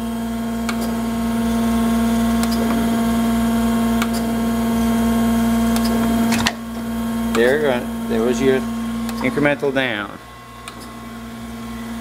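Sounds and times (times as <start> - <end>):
grinder machine hum: 0.0 - 12.0.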